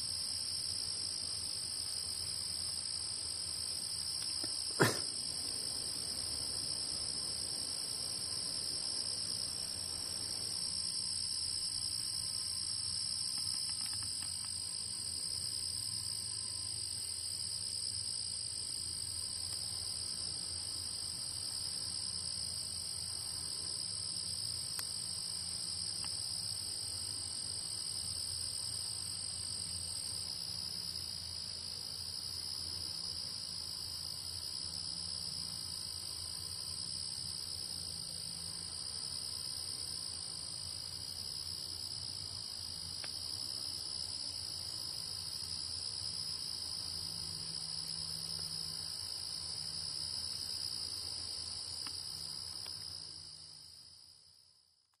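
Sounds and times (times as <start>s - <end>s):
crickets trilling: 0.0s - 54.6s.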